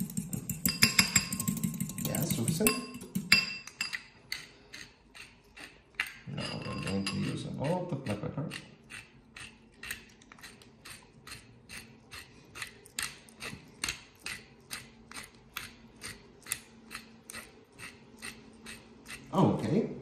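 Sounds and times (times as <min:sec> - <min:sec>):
pepper mill grinding: 0:00.0 - 0:19.4.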